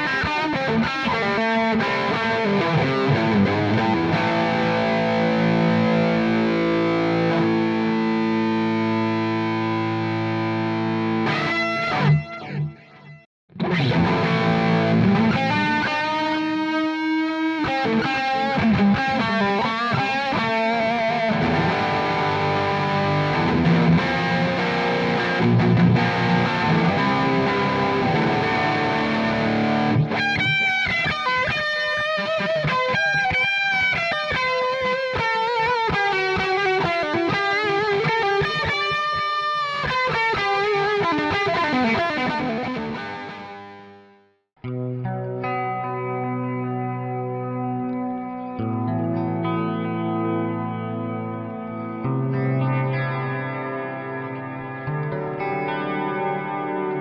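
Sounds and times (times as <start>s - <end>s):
overdriven electric guitar: 0.0s - 57.0s.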